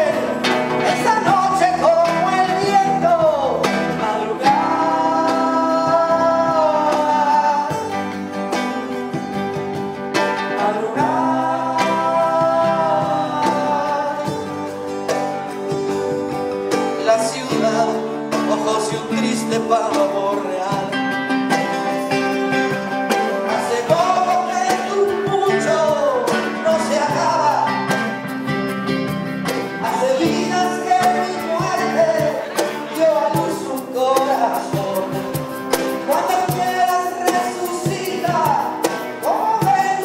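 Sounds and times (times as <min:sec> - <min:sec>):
acoustic guitars playing: 0:00.0 - 0:40.0.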